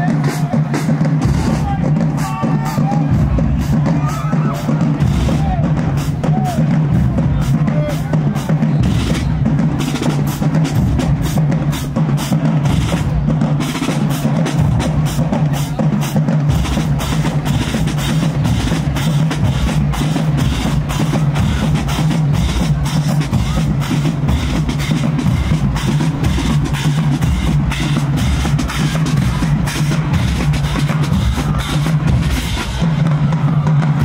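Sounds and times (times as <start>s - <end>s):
marching drumline cadence: 0.0s - 34.0s.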